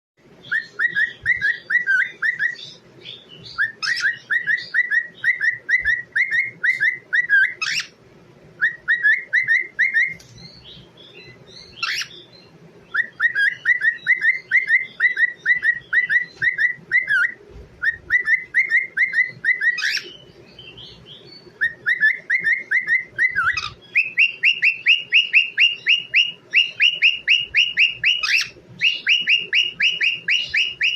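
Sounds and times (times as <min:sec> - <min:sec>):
baby parrot chirping whistles: 0:00.4 - 0:02.8, 0:03.4 - 0:08.0, 0:08.6 - 0:10.2, 0:11.2 - 0:12.2, 0:12.9 - 0:20.2, 0:21.6 - 0:30.9.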